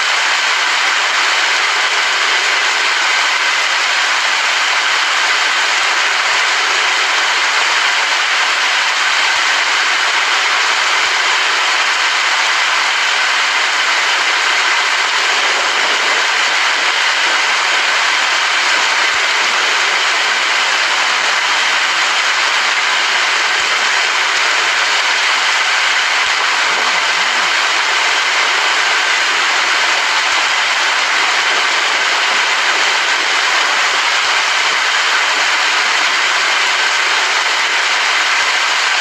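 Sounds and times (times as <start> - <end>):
heavy rain: 0.0 - 39.0.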